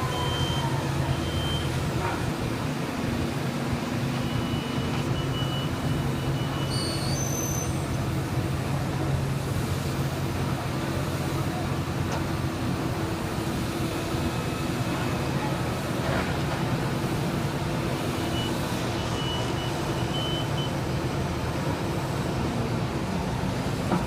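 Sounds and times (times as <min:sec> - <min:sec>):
construction machinery engine drone: 0:00.0 - 0:24.0.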